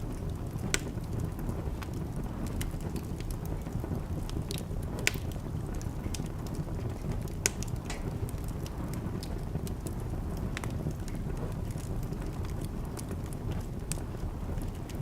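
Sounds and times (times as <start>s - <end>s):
fire flames rushing: 0.0s - 15.0s
wood fire crackling and popping: 0.0s - 15.0s.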